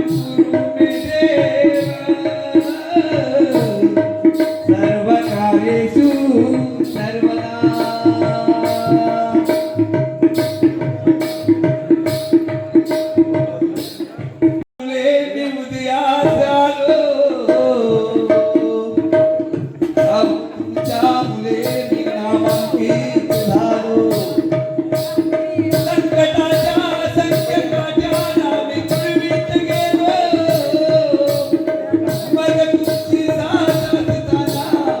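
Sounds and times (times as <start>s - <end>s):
hand drum beating steady rhythm: 0.0s - 14.7s, 17.4s - 35.0s.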